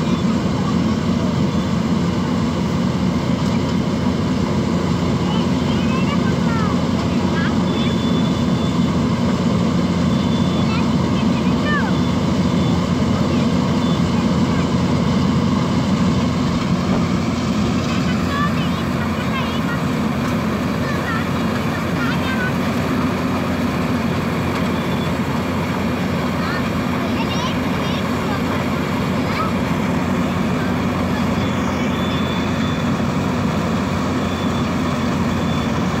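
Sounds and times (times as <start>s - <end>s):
combine harvester humming: 0.0s - 36.0s
machinery rattling: 0.1s - 36.0s.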